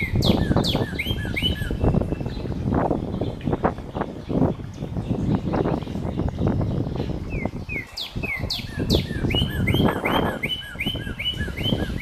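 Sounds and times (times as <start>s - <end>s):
bird chirping: 0.0s - 12.0s
wind noise on microphone: 0.0s - 12.0s.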